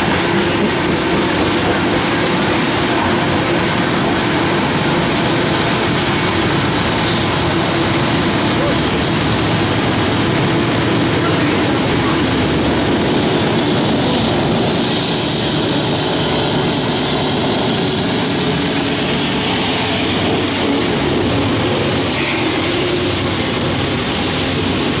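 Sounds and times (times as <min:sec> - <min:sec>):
diesel locomotive engine: 0:00.0 - 0:25.0
rain hissing: 0:00.1 - 0:25.0.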